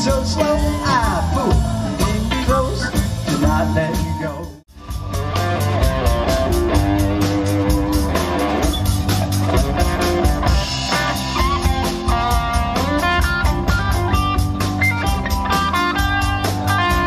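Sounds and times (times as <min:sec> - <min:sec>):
drum kit beat: 0:00.0 - 0:17.0
electric guitar: 0:00.0 - 0:17.0
rock band playing: 0:00.0 - 0:17.0.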